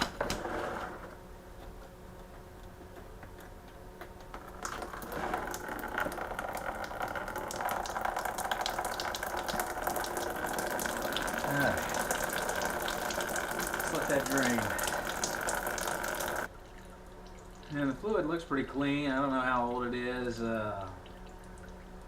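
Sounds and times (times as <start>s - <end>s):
liquid pouring: 4.3s - 22.0s.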